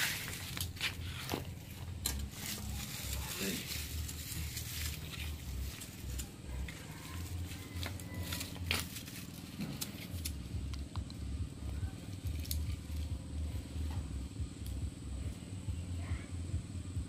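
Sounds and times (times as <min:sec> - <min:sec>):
dry fibres rustling and crackling: 0:00.0 - 0:15.5
low uneven rumble: 0:00.0 - 0:17.0.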